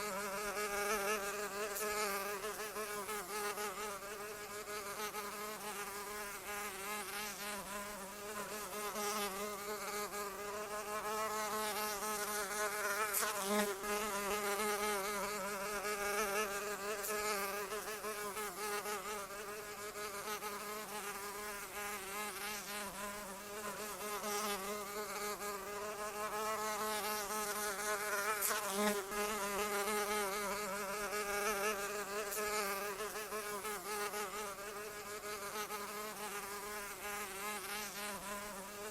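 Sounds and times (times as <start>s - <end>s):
flying insect buzzing: 0.0s - 38.9s.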